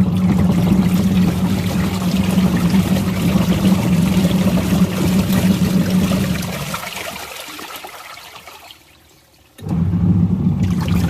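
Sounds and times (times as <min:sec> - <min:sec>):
washing machine motor hum: 0:00.0 - 0:08.5, 0:09.6 - 0:11.0
water sloshing and churning: 0:00.0 - 0:09.6, 0:10.6 - 0:11.0.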